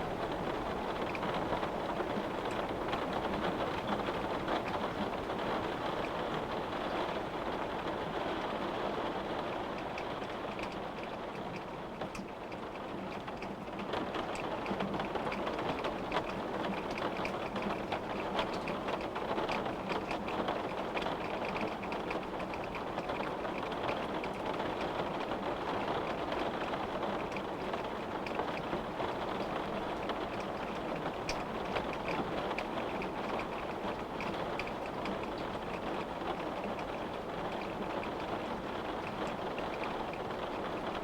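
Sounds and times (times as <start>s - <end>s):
steady rain falling: 0.0s - 41.0s
raindrops ticking on window: 0.1s - 41.0s.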